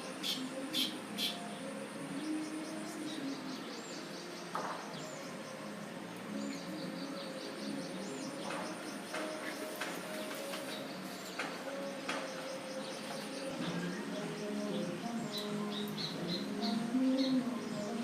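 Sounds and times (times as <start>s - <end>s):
sparrows chirping: 0.0s - 18.0s.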